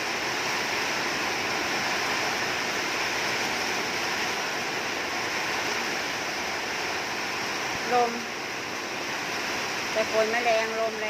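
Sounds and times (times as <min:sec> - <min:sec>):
light rain: 0:00.0 - 0:11.0.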